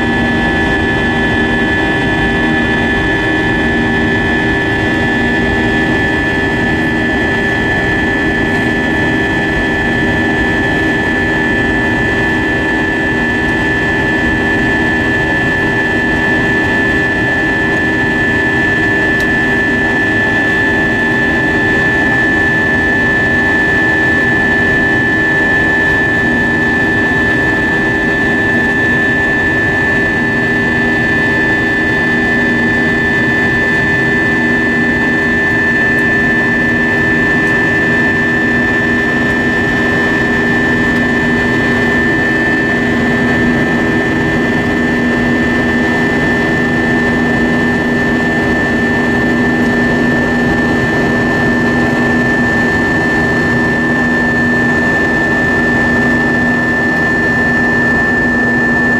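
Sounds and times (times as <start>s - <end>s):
high whine: 0.0s - 58.9s
jet engines in cabin: 0.0s - 58.9s.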